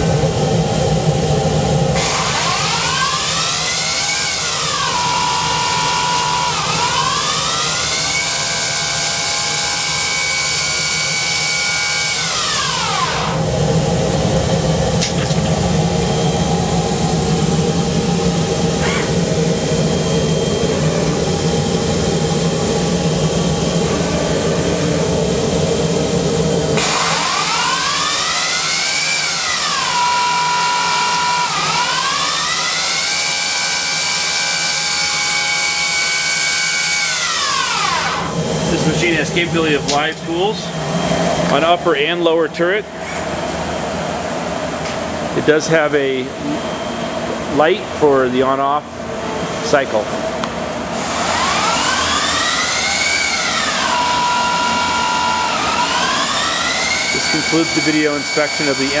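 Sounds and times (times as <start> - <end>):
spindle motors whining: 0.0 - 48.0, 50.2 - 59.0
rough steady machine noise: 0.0 - 59.0.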